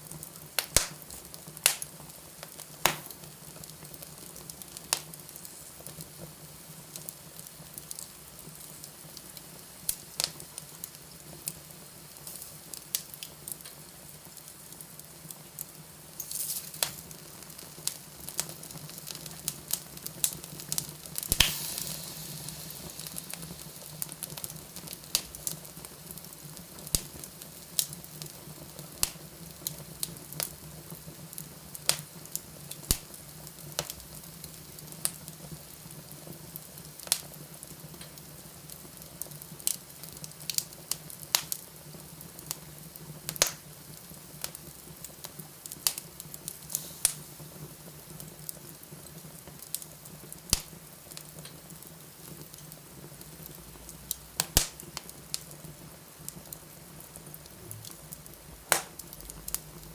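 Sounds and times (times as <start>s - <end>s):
fire crackling and popping: 0.0s - 59.9s
fire hissing: 0.0s - 59.9s.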